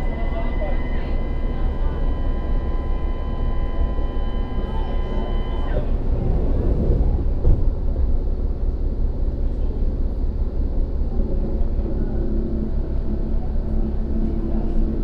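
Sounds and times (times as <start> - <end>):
steady whine: 0.0 - 15.0
subway train rumble: 0.0 - 15.0.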